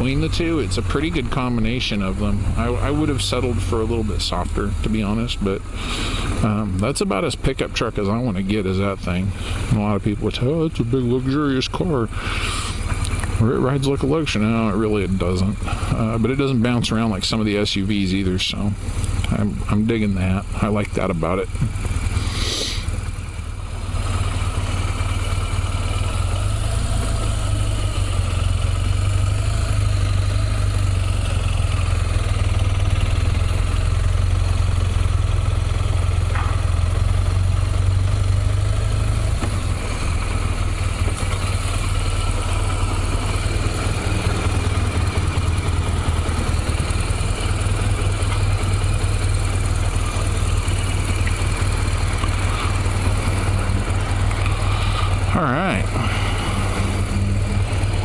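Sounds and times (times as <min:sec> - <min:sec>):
motorcycle engine rumble: 0:00.0 - 0:58.0
wind and road noise: 0:00.0 - 0:58.0.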